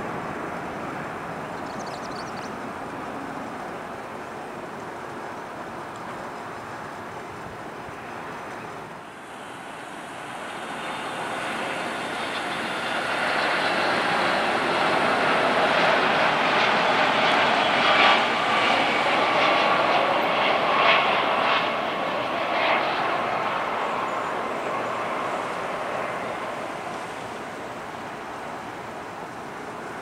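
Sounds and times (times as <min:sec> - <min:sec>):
jet airliner engine noise: 0:00.0 - 0:30.0.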